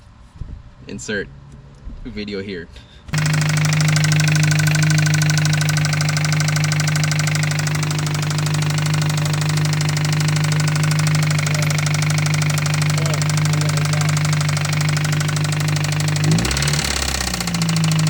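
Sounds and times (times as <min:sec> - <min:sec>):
car engine idling: 0:03.2 - 0:18.0
fast ticking knock: 0:03.2 - 0:18.0.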